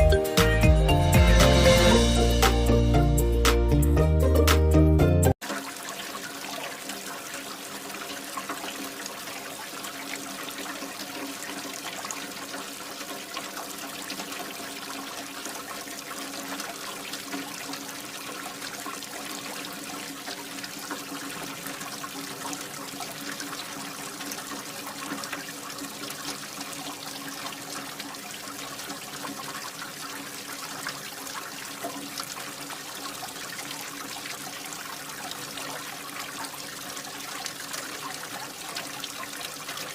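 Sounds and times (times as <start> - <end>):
water pouring and splashing: 5.3 - 39.9.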